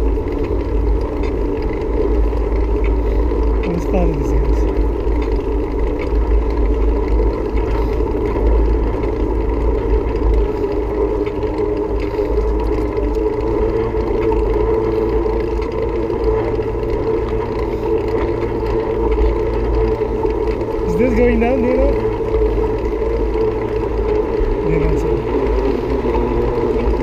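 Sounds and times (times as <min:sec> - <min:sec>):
bicycle rolling whir: 0:00.0 - 0:27.0.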